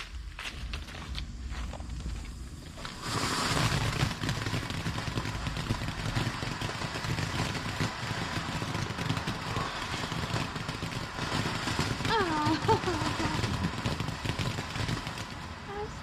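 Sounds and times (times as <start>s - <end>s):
firework fountain hissing and crackling: 0.0s - 16.0s.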